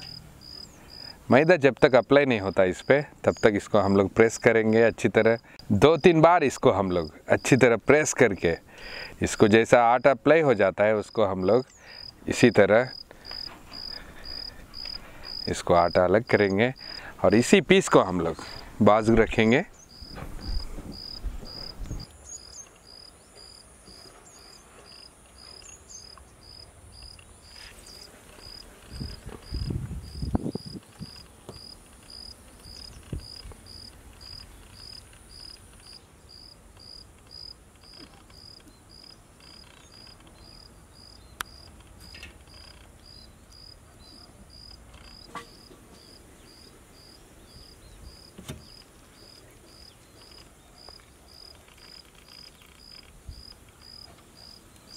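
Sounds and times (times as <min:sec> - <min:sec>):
insect chirping: 0:00.0 - 0:18.7, 0:19.4 - 0:54.9.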